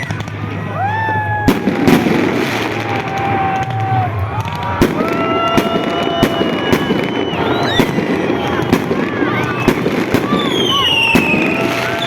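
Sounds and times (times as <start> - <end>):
firework bangs: 0.0 - 12.0
firework crackle: 0.0 - 12.0
firework whistles: 1.1 - 12.0.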